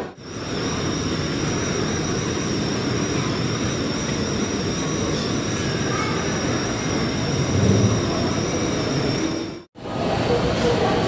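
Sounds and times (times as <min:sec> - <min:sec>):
high-pitched whine: 0:00.0 - 0:09.7.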